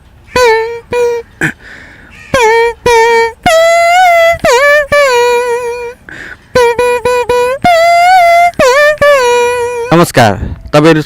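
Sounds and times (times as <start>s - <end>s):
high-pitched voice singing: 0.3s - 1.6s, 2.2s - 10.0s.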